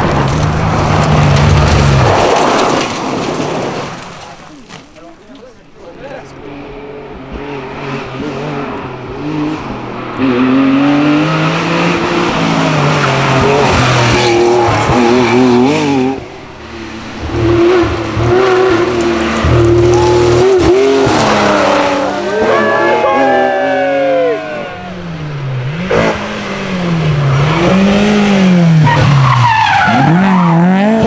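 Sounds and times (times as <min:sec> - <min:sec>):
rally car engines revving: 0:00.0 - 0:04.9, 0:05.8 - 0:31.0.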